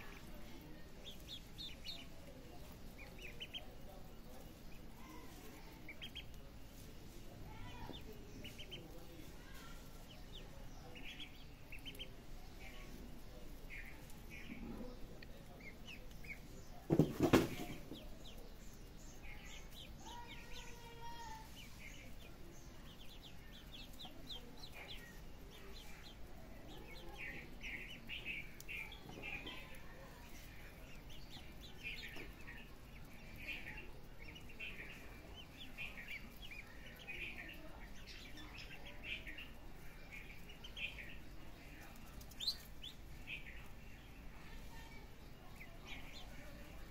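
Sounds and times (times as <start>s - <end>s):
ducklings peeping: 0.0s - 46.9s.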